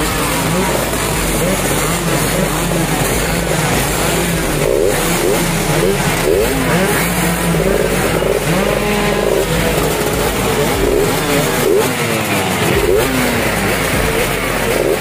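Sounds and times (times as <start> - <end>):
racing motorcycles revving: 0.0 - 15.0.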